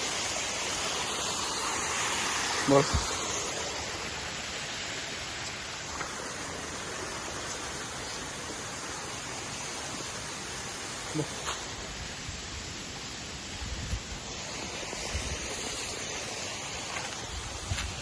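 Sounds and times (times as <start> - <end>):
waterfall: 0.0 - 18.0.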